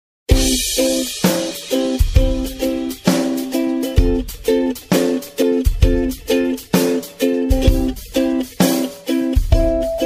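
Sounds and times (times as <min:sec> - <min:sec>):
music with drum beat: 0:00.3 - 0:10.0.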